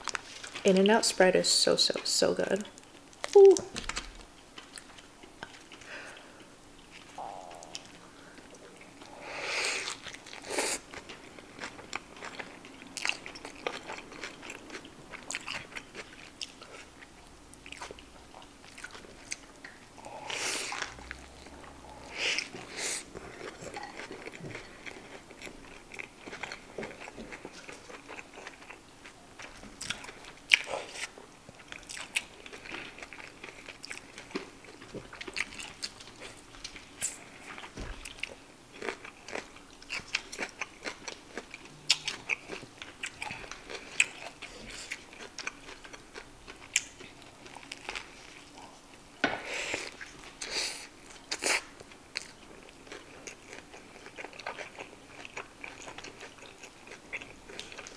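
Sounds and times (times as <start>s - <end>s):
chewing with crisp crunches: 1.9s - 57.9s.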